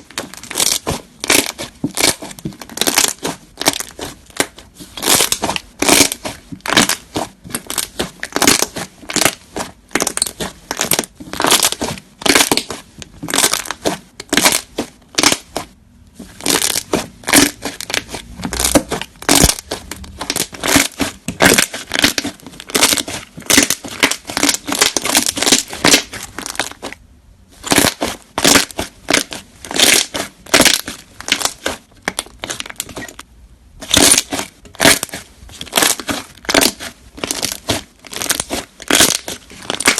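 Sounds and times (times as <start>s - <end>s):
slime crackling and popping: 0.0s - 27.0s, 27.6s - 33.2s, 33.8s - 39.9s.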